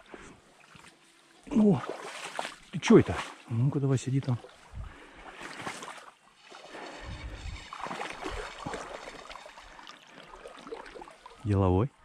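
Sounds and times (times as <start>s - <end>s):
water sloshing and splashing: 0.0s - 11.5s.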